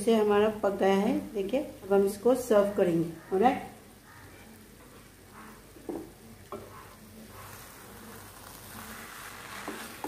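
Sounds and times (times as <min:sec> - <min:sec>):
faint frying sizzle: 0:00.0 - 0:10.0.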